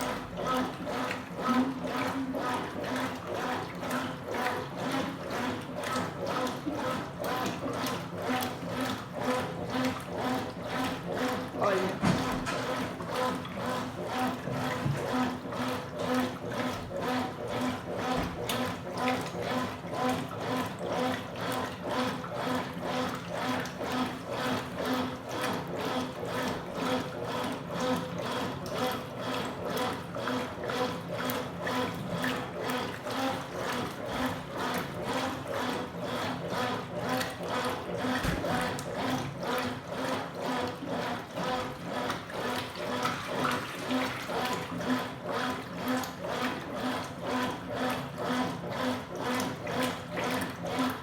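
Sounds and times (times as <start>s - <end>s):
washing machine agitating water: 0.0s - 51.0s
washing machine motor hum: 0.0s - 51.0s.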